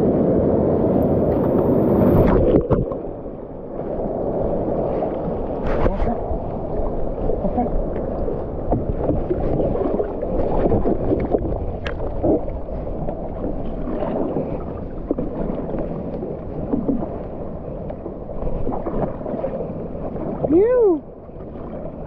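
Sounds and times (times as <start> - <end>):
wind rumble on microphone: 0.0 - 22.0
water splashing against a paddleboard: 1.2 - 22.0.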